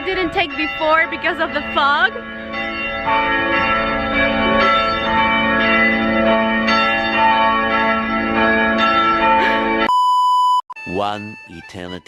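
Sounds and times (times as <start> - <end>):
church bells pealing: 0.0 - 9.9.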